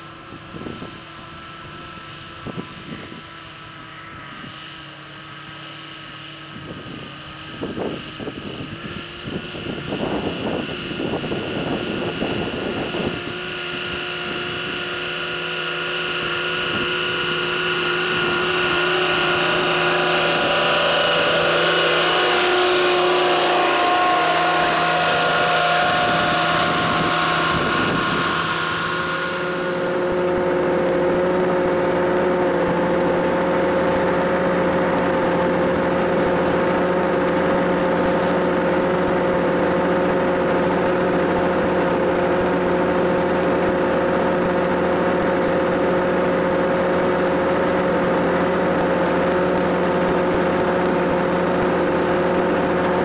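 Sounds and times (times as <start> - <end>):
engine low hum: 0.0 - 53.0
steady machine whine: 0.0 - 53.0.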